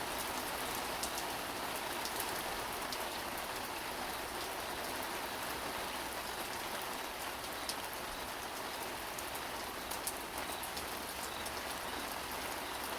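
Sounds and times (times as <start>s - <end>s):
raindrops ticking: 0.0s - 5.0s, 6.1s - 12.9s
rain falling: 0.0s - 12.9s.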